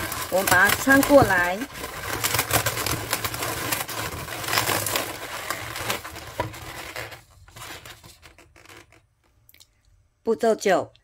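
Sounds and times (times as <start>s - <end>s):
balloons rubbing together: 0.0s - 9.1s.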